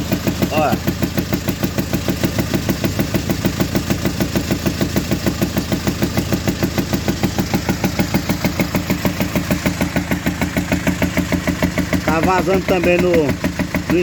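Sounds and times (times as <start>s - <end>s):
diesel engine idling: 0.0s - 14.0s
regular popping from engine: 0.0s - 14.0s.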